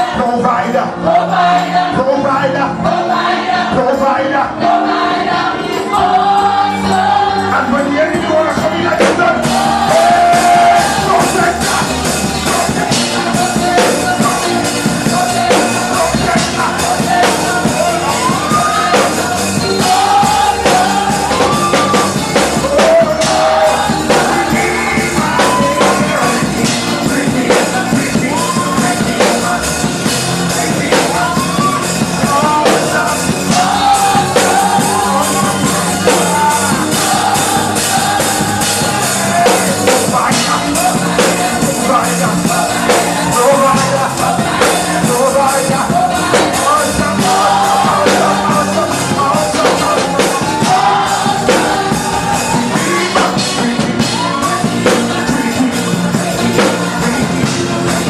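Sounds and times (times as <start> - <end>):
gospel band playing with drums: 0.0 - 58.0
voices singing and shouting: 0.0 - 58.0.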